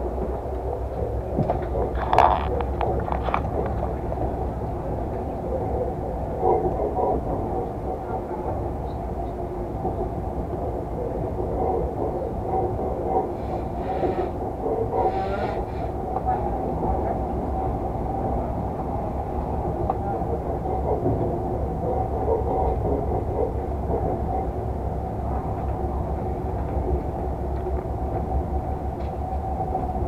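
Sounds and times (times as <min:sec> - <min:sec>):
train car rumbling: 0:00.0 - 0:30.0.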